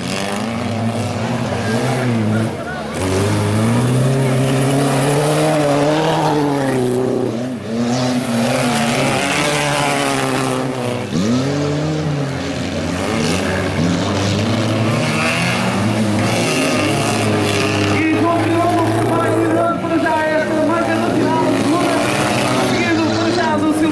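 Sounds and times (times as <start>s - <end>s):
race car engines revving: 0.0s - 23.9s.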